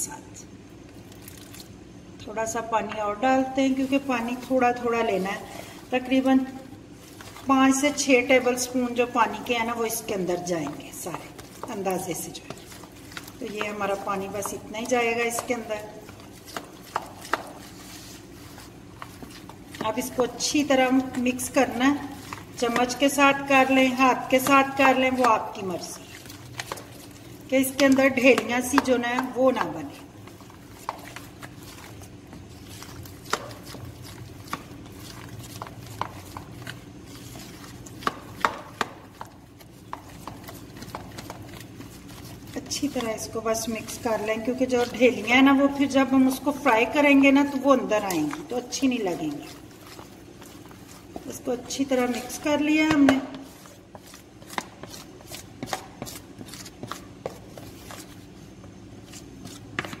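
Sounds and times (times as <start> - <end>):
low steady hum: 0.0 - 60.0
spoon stirring thick batter: 0.7 - 60.0.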